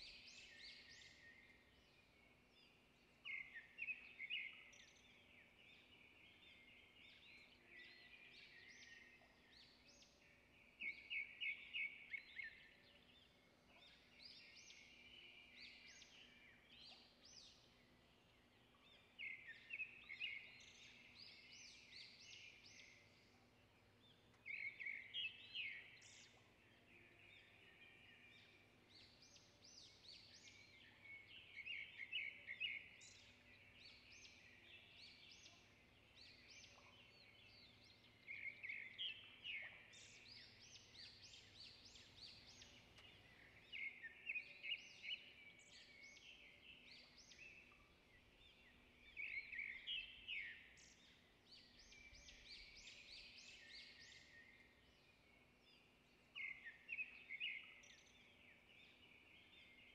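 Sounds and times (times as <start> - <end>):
soft bird chirping: 0.0 - 59.9.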